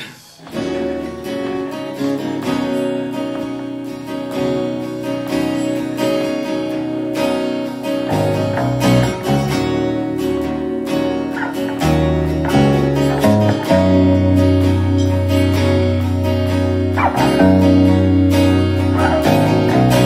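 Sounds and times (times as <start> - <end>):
acoustic guitars strumming: 0.0 - 20.0.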